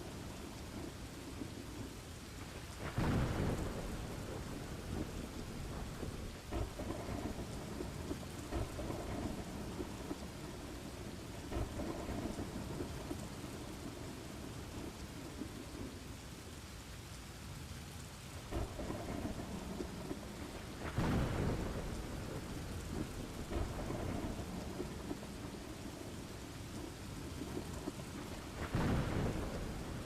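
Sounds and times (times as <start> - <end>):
thunder rumbling: 0.0 - 16.2, 18.3 - 30.0
steady rain falling: 0.0 - 30.0.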